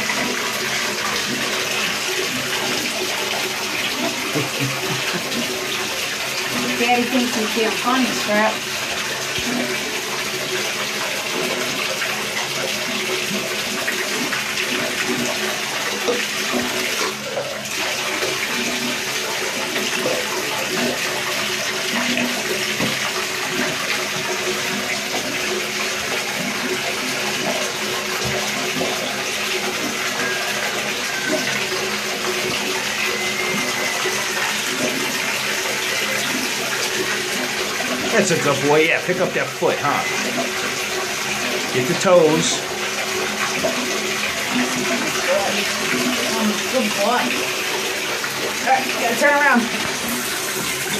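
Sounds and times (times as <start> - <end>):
water running into a bathtub: 0.0 - 50.9.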